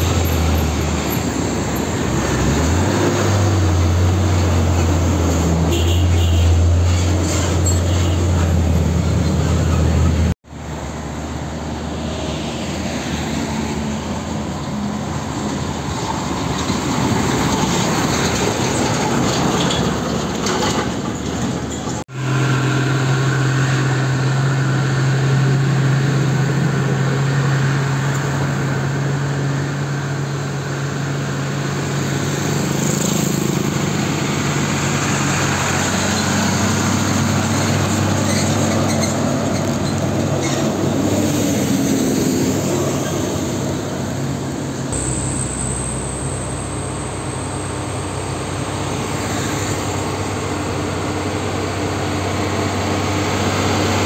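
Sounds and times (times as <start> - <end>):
diesel trucks passing uphill: 0.0 - 54.0
tyre and road noise: 0.0 - 54.0.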